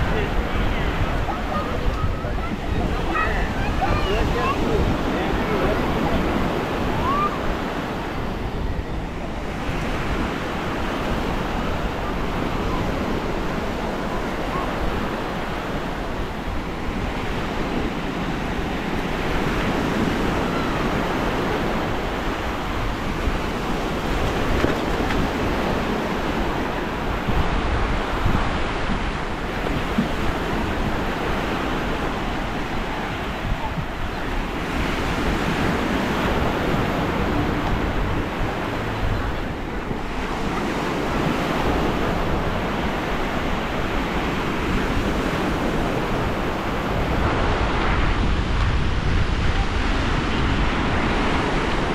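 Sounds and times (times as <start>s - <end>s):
surf washing onto beach: 0.0s - 51.9s
wind buffeting microphone: 0.0s - 51.9s.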